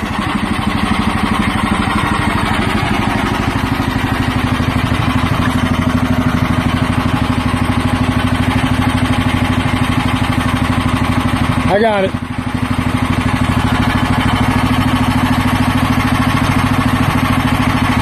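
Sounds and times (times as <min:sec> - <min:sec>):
gas engine running steadily: 0:00.0 - 0:18.0.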